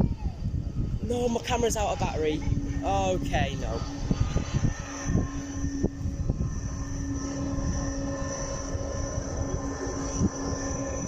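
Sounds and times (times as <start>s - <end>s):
aircraft engine humming: 0.0s - 11.0s
high whine: 0.0s - 11.0s
uneven low rumble: 0.0s - 11.0s.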